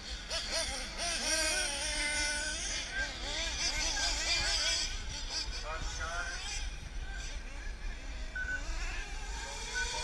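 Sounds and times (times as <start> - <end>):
rc car motors whining: 0.0 - 10.0.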